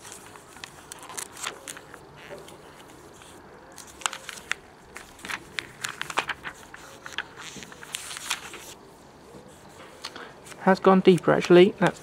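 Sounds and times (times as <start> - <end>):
paper pages flicking: 0.0 - 8.8, 10.0 - 12.0.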